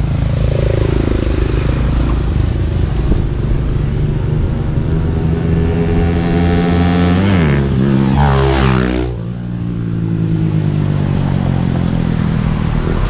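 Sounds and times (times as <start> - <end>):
motorcycle passing at speed: 0.0 - 13.0
motorcycle tricycle engine: 0.0 - 13.0.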